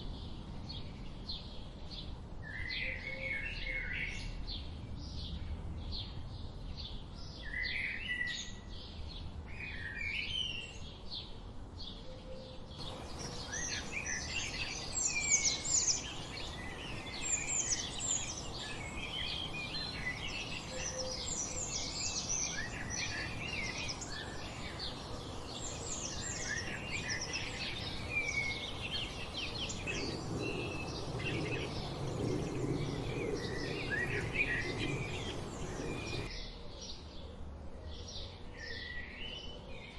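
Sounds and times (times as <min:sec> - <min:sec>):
steady background hiss: 0:00.0 - 0:36.4
songbirds singing and chipping: 0:00.0 - 0:39.9.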